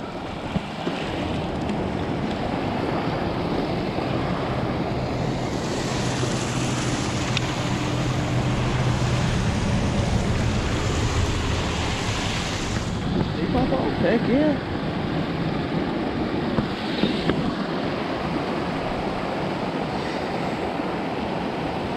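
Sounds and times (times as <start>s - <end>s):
boat motor running: 0.0s - 21.0s
water rushing: 0.0s - 21.9s
wind on microphone: 0.0s - 21.9s.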